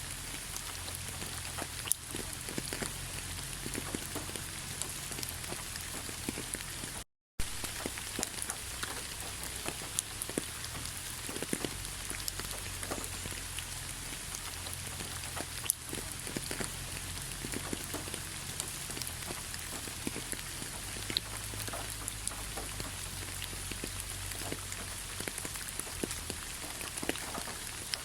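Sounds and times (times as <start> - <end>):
raindrops pattering: 0.0 - 28.0
steady rain: 0.0 - 28.0.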